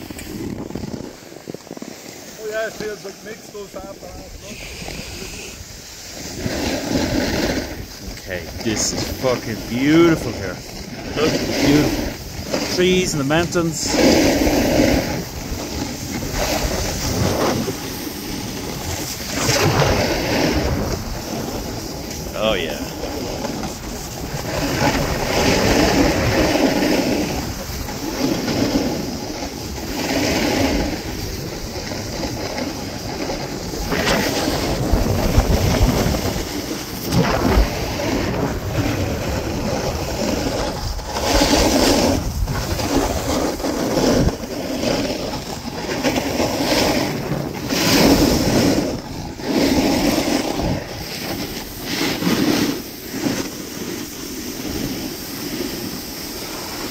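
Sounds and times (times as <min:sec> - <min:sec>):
skis scraping over snow: 0:00.0 - 0:56.9
wind on microphone: 0:00.0 - 0:56.9.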